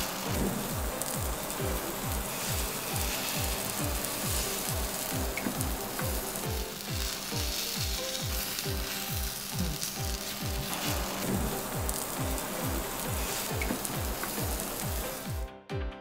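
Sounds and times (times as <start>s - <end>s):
food sizzling on hot plate: 0.0s - 15.4s
background music with low beat: 0.0s - 16.0s.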